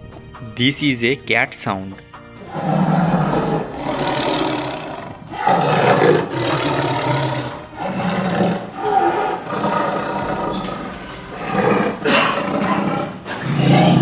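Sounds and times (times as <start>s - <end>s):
big cat roaring: 2.4s - 14.0s.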